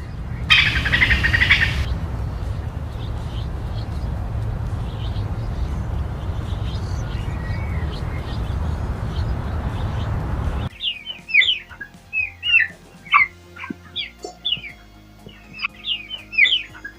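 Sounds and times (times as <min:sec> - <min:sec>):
sharp bird calls with falling notes: 0:00.0 - 0:16.9
small birds chirping: 0:00.0 - 0:16.9
steady low rumble: 0:00.0 - 0:16.9.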